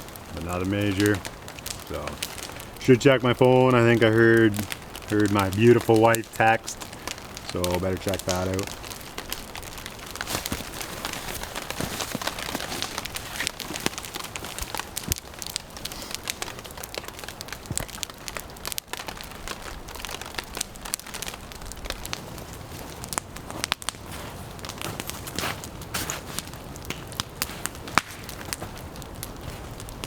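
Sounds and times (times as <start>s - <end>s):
campfire crackling and popping: 0.0s - 30.0s
rain pattering: 0.0s - 30.0s.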